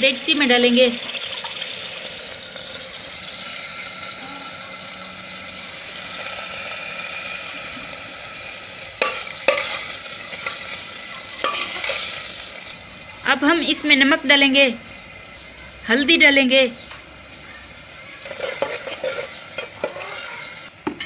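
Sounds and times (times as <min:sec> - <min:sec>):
chicken sizzling in a pot: 0:00.0 - 0:21.0.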